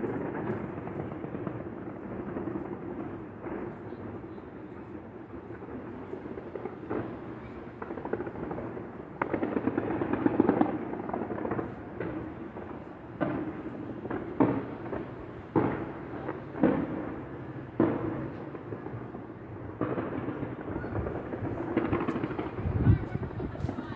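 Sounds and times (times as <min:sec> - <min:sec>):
fireworks exploding: 0:00.0 - 0:23.9.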